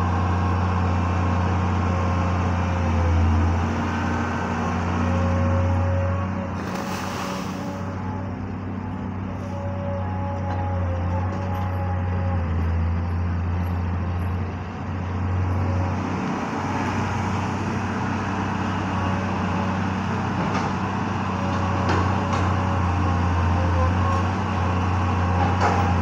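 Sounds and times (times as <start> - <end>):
diesel excavator engine droning: 0.0 - 26.0.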